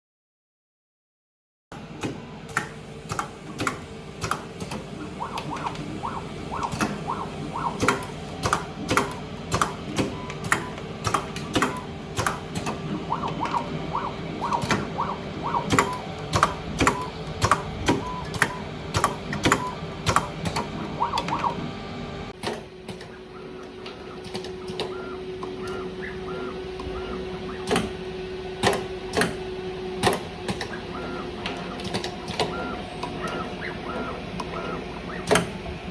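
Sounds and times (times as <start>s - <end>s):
machine motor hum: 1.8s - 35.9s
sharp machine clacks: 2.0s - 21.6s, 22.4s - 28.0s, 28.6s - 35.6s.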